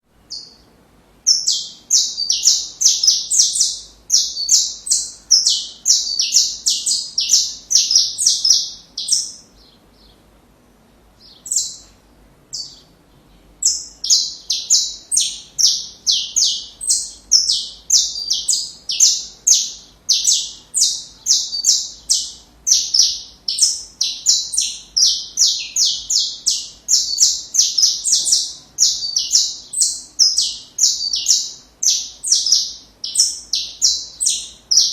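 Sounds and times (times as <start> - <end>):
finch singing: 0.2 - 10.3, 11.2 - 34.9.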